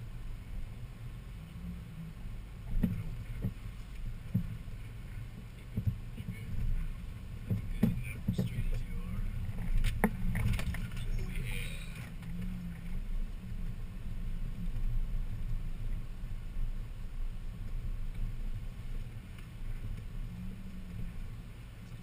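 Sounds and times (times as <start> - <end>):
off-road vehicle engine rumbling: 0.0 - 22.0.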